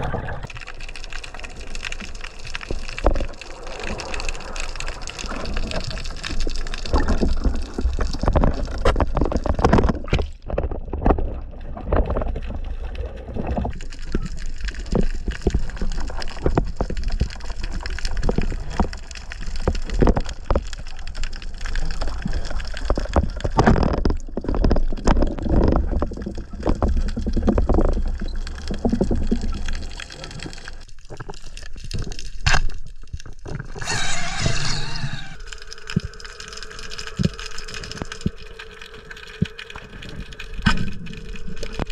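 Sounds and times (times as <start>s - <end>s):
rushing gurgling water: 0.0s - 32.2s, 33.4s - 41.9s.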